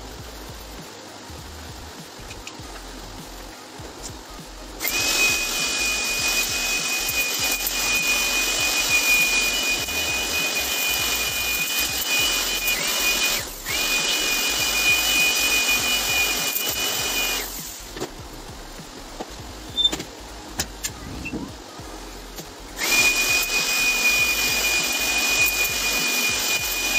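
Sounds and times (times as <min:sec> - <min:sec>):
electric blower motor whine: 0:01.6 - 0:19.9, 0:21.1 - 0:26.9.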